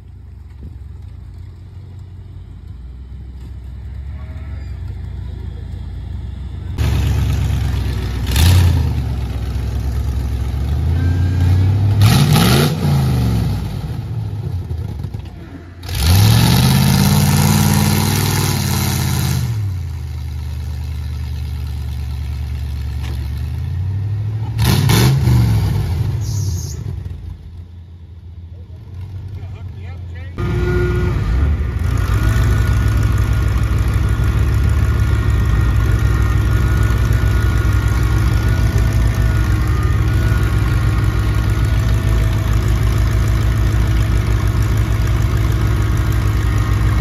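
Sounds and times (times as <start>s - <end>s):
truck engine revving: 1.0s - 47.0s.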